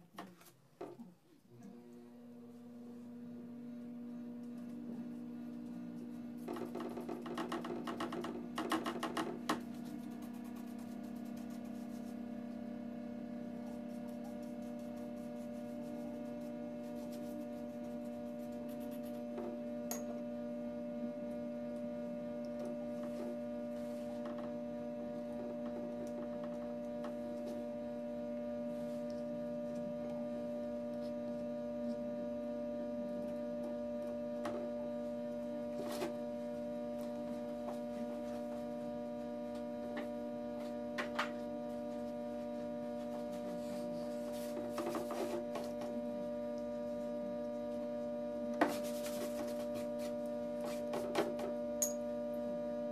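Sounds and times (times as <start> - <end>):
electrical hum: 1.3 - 52.9.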